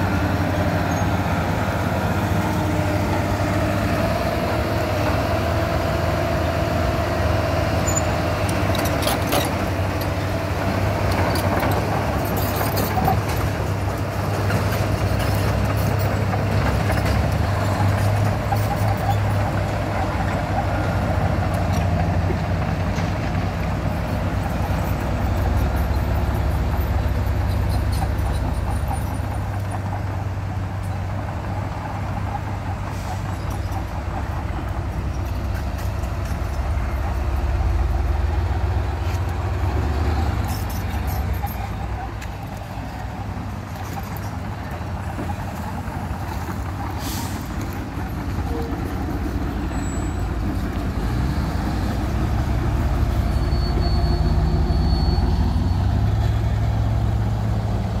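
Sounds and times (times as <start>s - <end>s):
heavy diesel engines rumbling: 0.0s - 58.0s.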